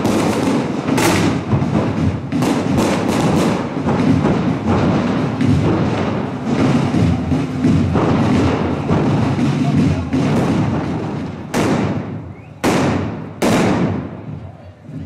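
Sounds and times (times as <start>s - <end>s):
firecrackers rattling: 0.0s - 14.6s
loud firecracker bangs: 0.0s - 14.6s.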